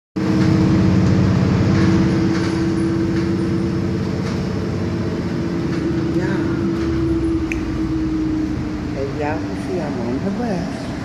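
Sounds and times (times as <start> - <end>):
bus engine hum: 0.2 - 11.0
road rumble: 0.2 - 11.0.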